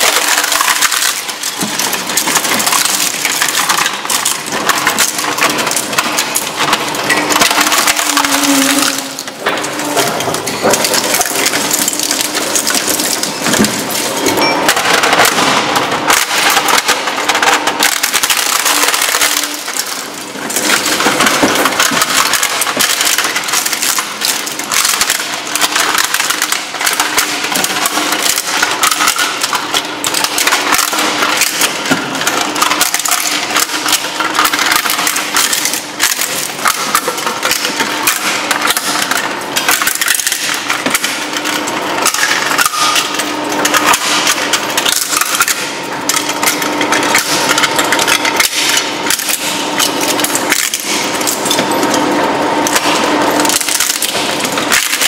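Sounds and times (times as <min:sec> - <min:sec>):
hard plastic cracking and crunching: 0:00.0 - 0:55.0
shredder machine drone: 0:00.0 - 0:55.0.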